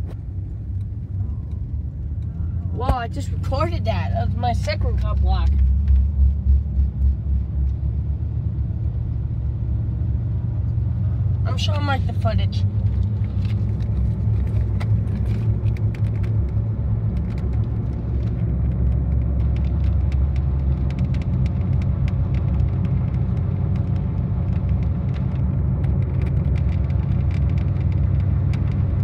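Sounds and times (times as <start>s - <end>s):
car engine low rumble: 0.0s - 29.0s
road noise inside car: 0.0s - 29.0s.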